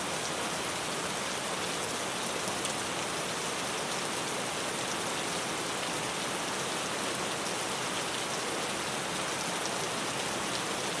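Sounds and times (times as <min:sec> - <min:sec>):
rain on a tin roof: 0:00.0 - 0:11.0.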